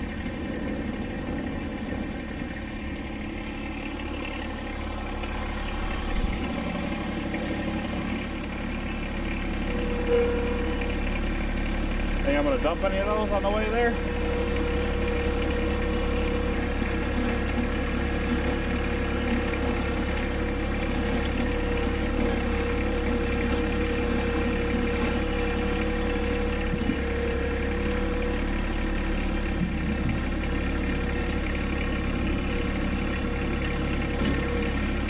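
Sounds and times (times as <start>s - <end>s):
engine humming: 0.0s - 35.0s
engine whine: 0.0s - 35.0s.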